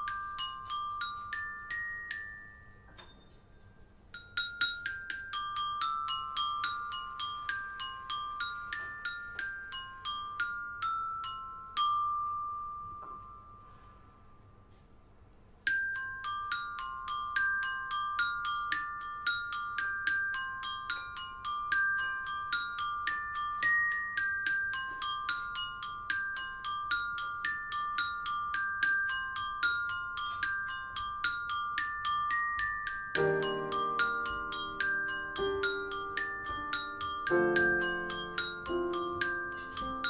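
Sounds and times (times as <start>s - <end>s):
glockenspiel melody: 0.0s - 14.8s, 15.7s - 40.0s.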